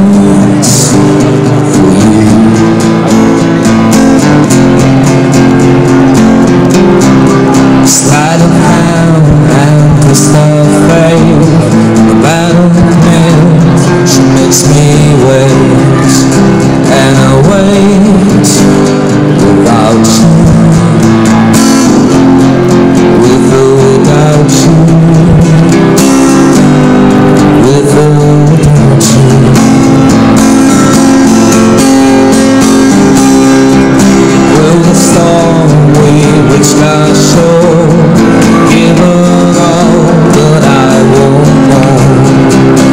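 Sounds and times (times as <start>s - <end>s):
acoustic guitar strumming: 0.0s - 42.9s
person singing into microphone: 0.0s - 42.9s.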